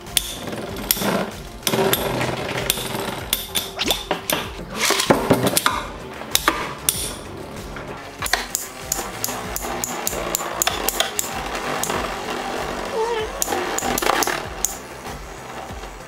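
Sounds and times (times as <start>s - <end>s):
metal tops clacking: 0.0s - 16.0s
spinning tops whirring: 0.0s - 16.0s.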